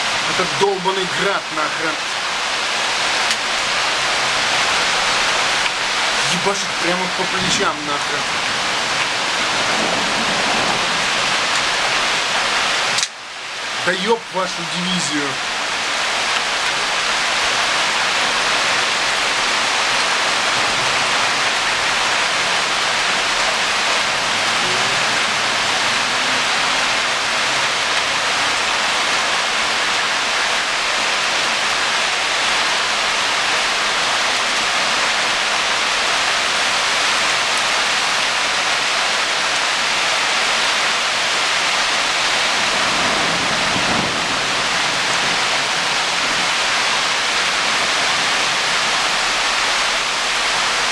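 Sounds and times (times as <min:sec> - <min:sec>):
heavy rain and hail: 0:00.0 - 0:50.9.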